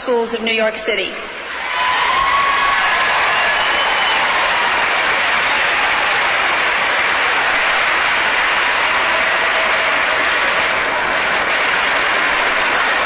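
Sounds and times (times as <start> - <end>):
large crowd applauding: 1.3 - 13.0.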